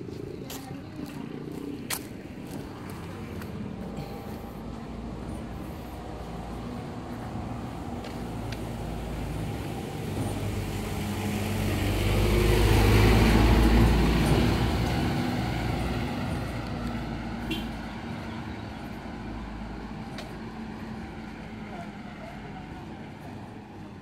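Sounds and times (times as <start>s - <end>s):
vehicle engine passing: 2.2s - 23.8s.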